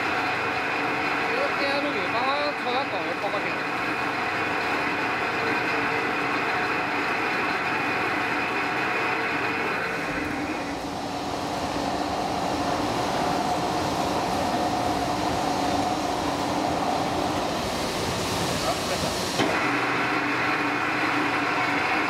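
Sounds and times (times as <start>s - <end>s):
plate rolling machine whine and hum: 0.0s - 22.0s.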